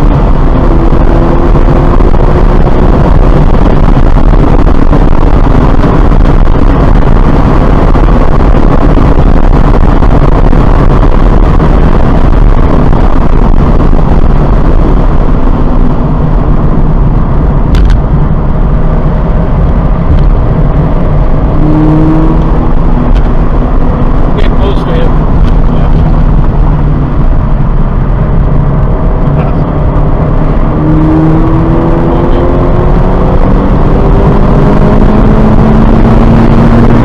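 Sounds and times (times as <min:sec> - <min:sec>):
car engine: 0:00.0 - 0:37.0
wind noise: 0:00.0 - 0:37.0.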